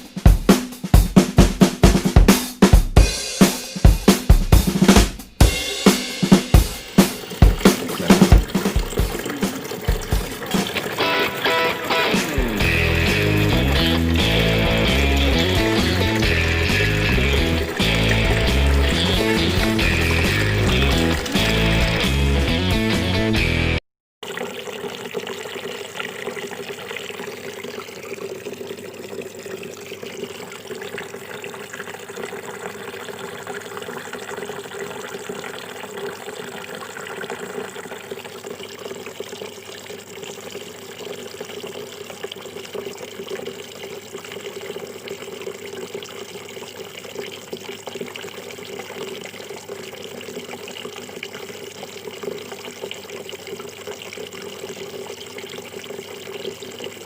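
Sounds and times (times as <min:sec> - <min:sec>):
water trickling down waterfall: 0:06.1 - 0:22.5, 0:24.2 - 0:57.0.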